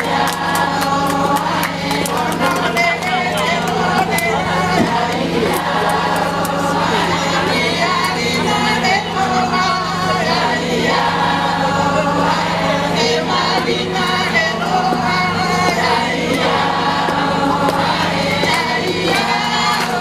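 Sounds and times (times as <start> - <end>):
steady low hum: 0.0 - 20.0
women's choir singing: 0.0 - 20.0.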